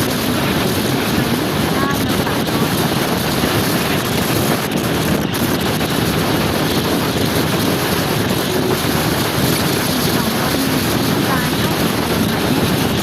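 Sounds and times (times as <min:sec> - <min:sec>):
road noise: 0:00.0 - 0:13.0
wind rushing over microphone: 0:00.0 - 0:13.0.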